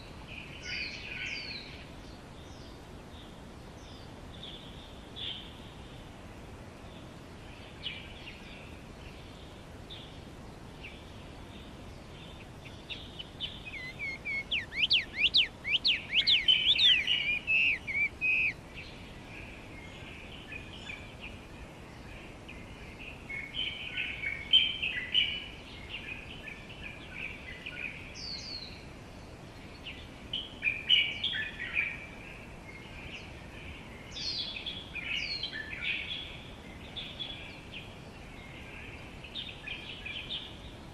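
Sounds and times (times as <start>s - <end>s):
low background hiss: 0.0s - 40.9s
songbirds singing and chirping: 0.0s - 40.9s.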